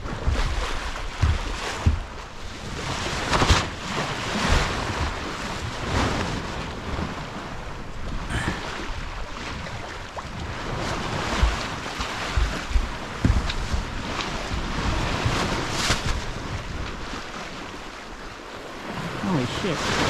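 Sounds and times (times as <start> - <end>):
water rushing and splashing: 0.0 - 20.0
wind buffeting microphone: 0.0 - 20.0.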